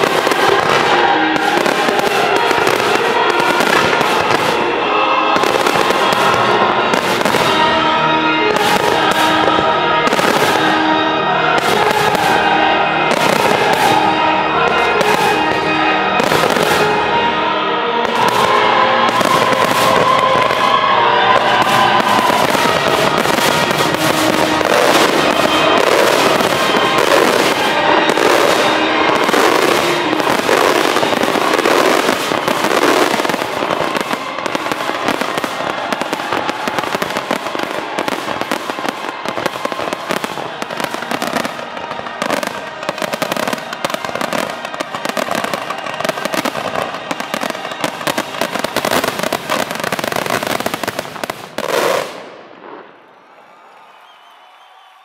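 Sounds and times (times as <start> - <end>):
fireworks rapid bangs and crackling: 0.0 - 52.9.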